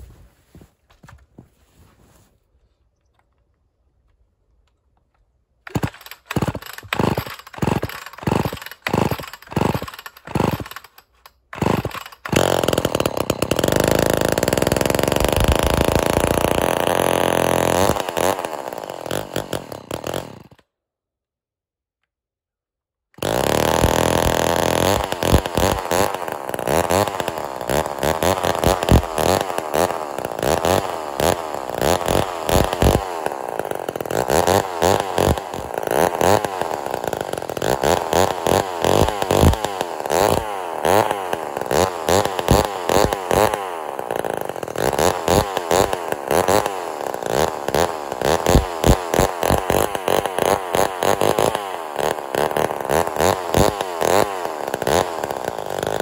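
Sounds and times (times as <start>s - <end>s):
chainsaw revving: 5.7s - 20.6s, 23.2s - 56.0s.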